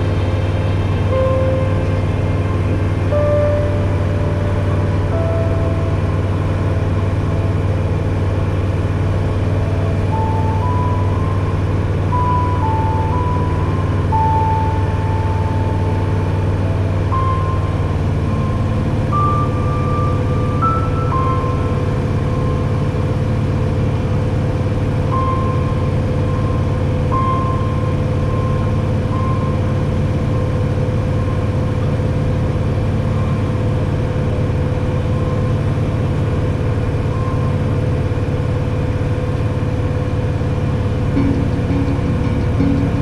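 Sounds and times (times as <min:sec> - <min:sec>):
aircraft engine and propeller drone: 0:00.0 - 0:43.0.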